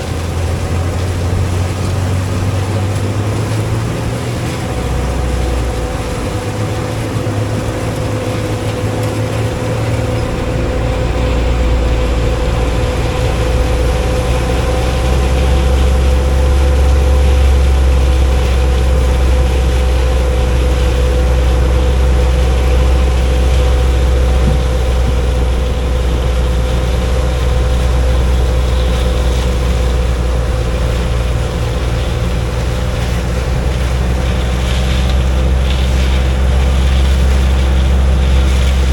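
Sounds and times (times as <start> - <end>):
combine harvester machinery drone: 0.0 - 38.9.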